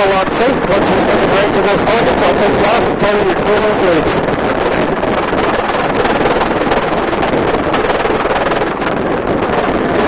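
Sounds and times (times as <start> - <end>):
helicopter engine and rotor: 0.0 - 10.0
wind on microphone: 0.0 - 10.0.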